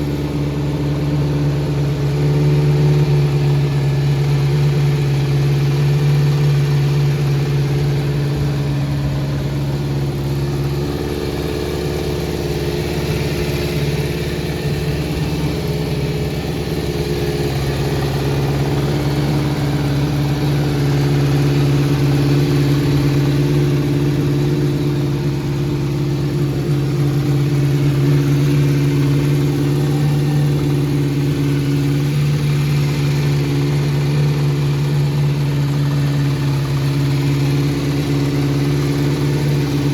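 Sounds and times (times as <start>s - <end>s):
motorcycle engine idling unevenly: 0.0s - 39.9s.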